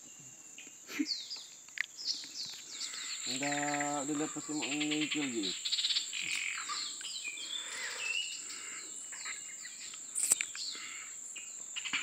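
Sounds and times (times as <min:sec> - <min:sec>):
high insect drone: 0:00.0 - 0:12.0
small birds chirping: 0:00.0 - 0:12.0.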